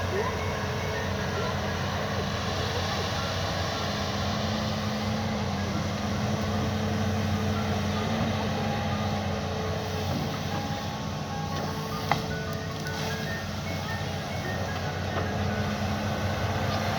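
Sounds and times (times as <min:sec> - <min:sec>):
excavator engine droning: 0:00.0 - 0:16.9.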